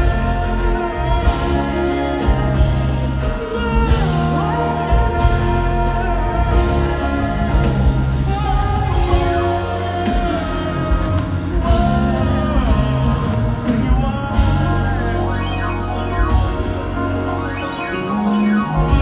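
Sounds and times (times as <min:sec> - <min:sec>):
live band with singing: 0:00.0 - 0:19.0.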